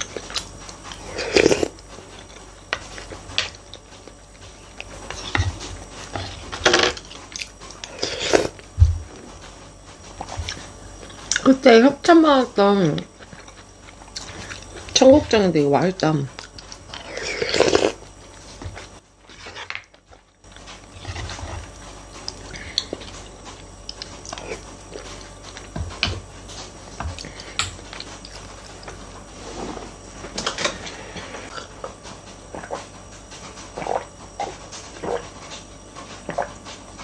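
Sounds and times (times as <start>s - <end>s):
chewing and slurping: 0.0s - 11.5s, 13.0s - 15.0s, 16.3s - 37.0s.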